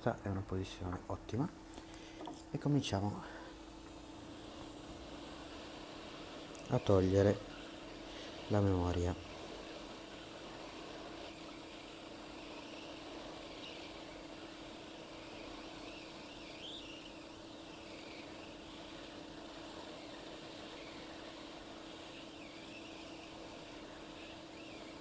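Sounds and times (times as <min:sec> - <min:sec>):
hot air station blowing: 0:01.7 - 0:25.0.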